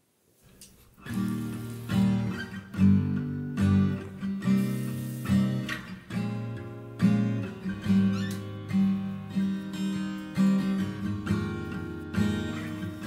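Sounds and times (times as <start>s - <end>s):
acoustic guitar strumming chords: 1.0s - 13.0s.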